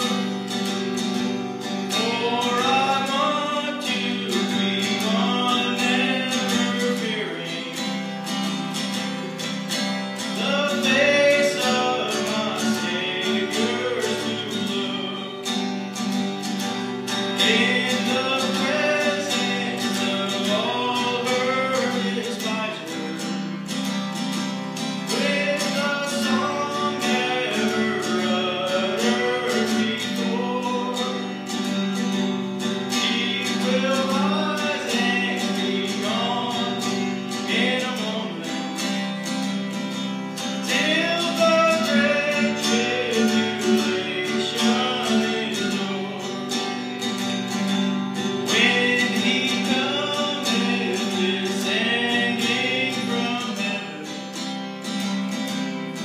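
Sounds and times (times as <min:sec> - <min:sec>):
person singing gospel song: 0:00.0 - 0:01.0, 0:01.6 - 0:09.6, 0:10.2 - 0:39.4, 0:40.4 - 0:54.6
strummed acoustic guitar: 0:00.0 - 0:56.0.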